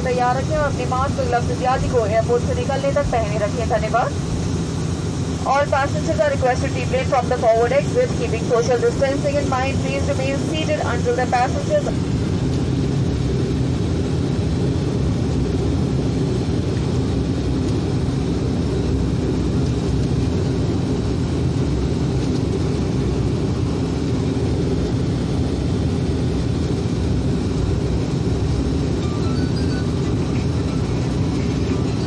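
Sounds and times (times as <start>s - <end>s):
turboprop engines droning: 0.0s - 32.0s.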